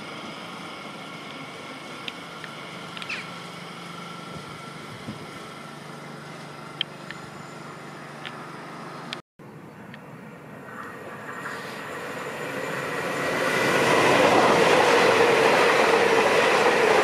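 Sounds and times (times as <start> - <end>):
electric train humming: 0.0 - 17.0.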